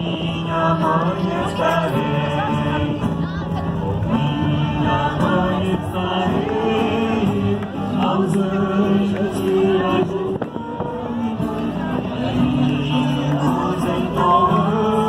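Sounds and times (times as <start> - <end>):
music with slow singing: 0.0 - 15.0.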